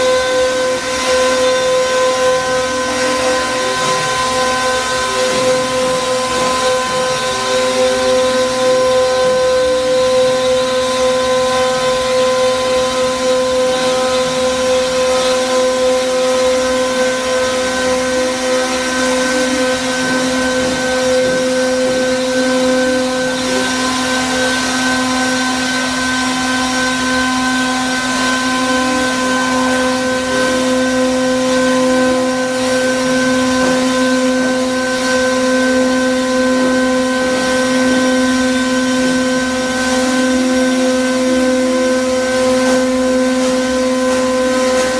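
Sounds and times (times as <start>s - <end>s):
cooling fan air rush: 0.0s - 44.9s
spindle multi-tone whine: 0.0s - 44.9s.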